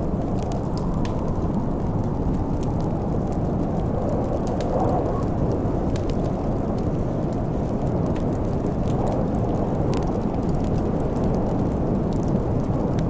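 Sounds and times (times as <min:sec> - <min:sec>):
low rumbling snowstorm wind: 0:00.0 - 0:13.0
wood fire crackling and popping: 0:00.0 - 0:13.0.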